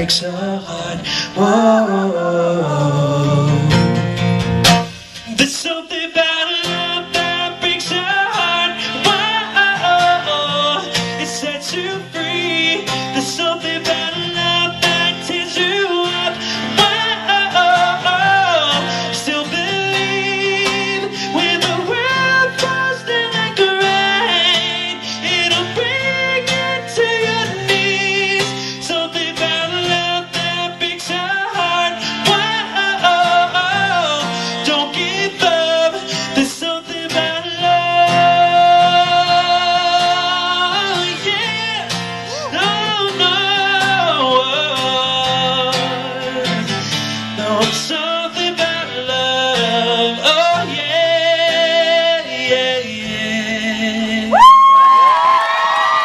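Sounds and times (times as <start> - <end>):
man singing wordless vocal runs: 0.0 - 3.8, 5.2 - 46.8
acoustic guitar: 0.0 - 56.0.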